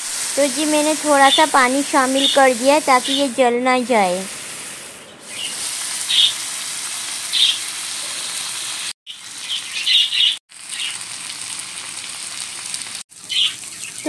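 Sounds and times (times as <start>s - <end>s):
onion and spices sizzling: 0.0s - 14.0s.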